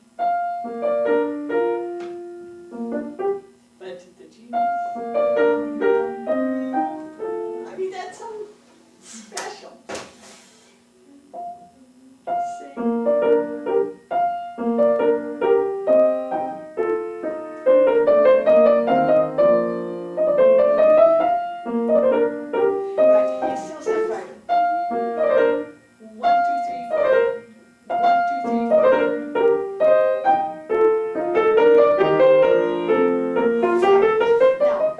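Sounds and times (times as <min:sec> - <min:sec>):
solo classical piano: 0:00.0 - 0:03.5, 0:04.5 - 0:07.8, 0:11.4 - 0:34.9.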